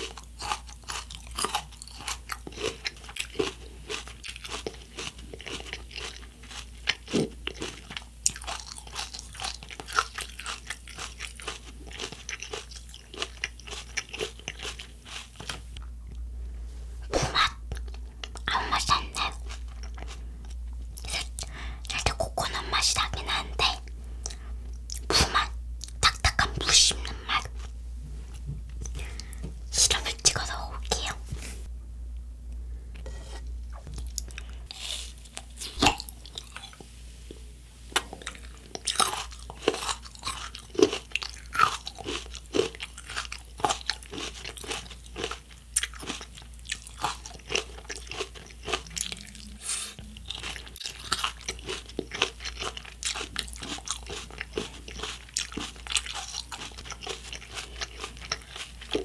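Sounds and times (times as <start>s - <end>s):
crunching and chewing coconut: 0.0s - 16.2s, 17.2s - 27.7s, 33.0s - 59.0s.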